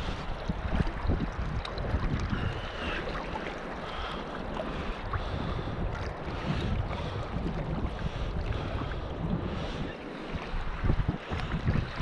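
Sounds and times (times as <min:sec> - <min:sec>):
water lapping and splashing: 0:00.0 - 0:12.0
wind buffeting microphone: 0:00.0 - 0:12.0.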